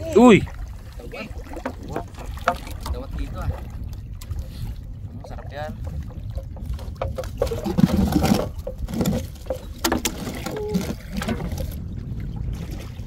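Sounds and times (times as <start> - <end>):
lake water splashing and lapping: 0.0 - 13.0
wind rumble on microphone: 0.0 - 13.0.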